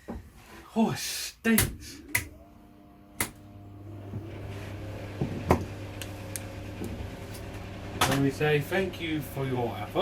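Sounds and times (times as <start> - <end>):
fan heater humming: 1.4 - 10.0.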